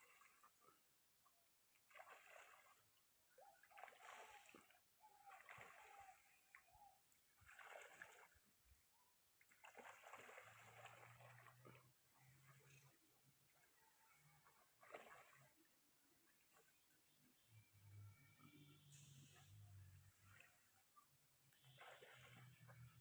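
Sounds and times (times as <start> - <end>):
ducks splashing water: 0.0 - 0.8, 1.7 - 17.4, 18.3 - 23.0.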